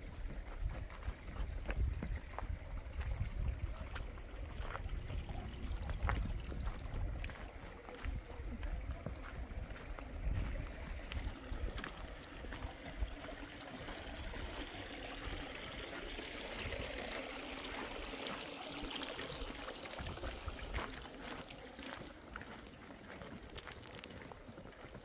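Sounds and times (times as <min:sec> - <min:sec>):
water running and trickling: 0:00.0 - 0:25.0.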